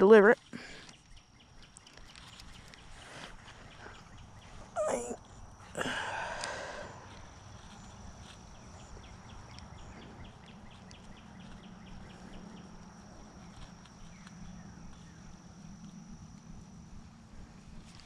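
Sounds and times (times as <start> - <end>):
reel high whine: 0.0 - 18.0.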